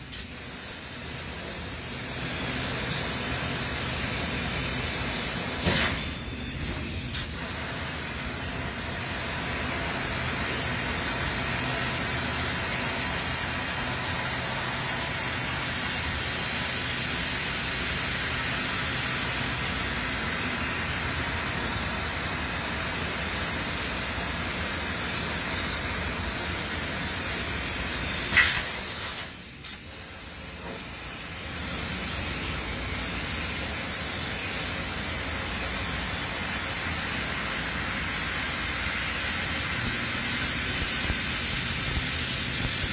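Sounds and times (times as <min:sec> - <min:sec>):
factory machinery hissing: 0:00.0 - 0:42.9.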